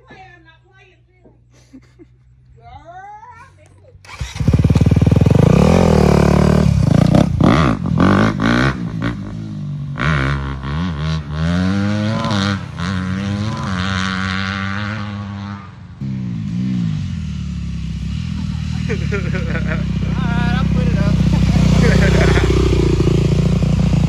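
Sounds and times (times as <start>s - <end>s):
dirt bike engine revving: 4.1s - 24.0s.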